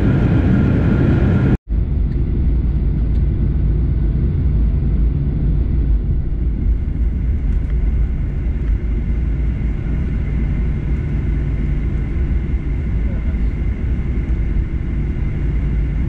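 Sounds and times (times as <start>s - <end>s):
jet airliner rumble from cabin: 0.0s - 16.0s.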